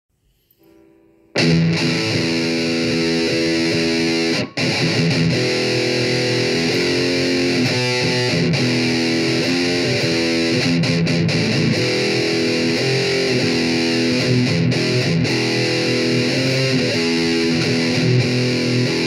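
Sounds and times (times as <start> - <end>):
distorted electric guitar riff: 1.3 - 19.0.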